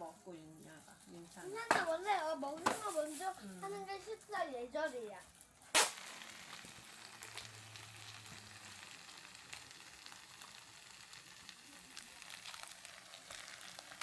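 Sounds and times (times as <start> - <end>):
faint steady hiss with crackles: 0.0 - 14.0.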